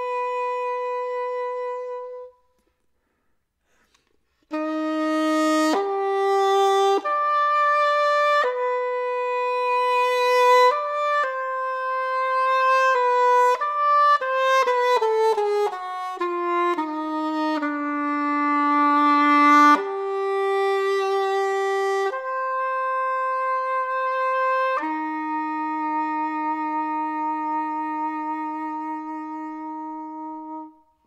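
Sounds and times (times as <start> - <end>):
english horn playing slow notes: 0.0 - 2.7, 4.4 - 31.0.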